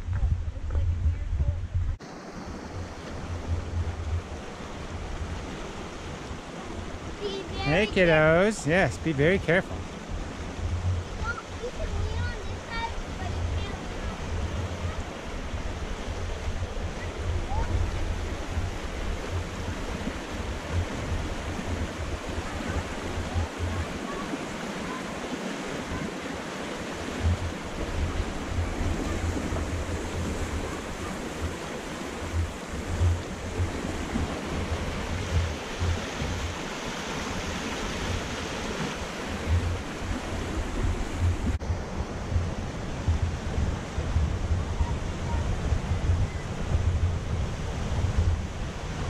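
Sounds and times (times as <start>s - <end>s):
wind rumbling on microphone: 0.0s - 8.0s, 9.7s - 49.0s
creek rushing over rocks: 0.0s - 49.0s.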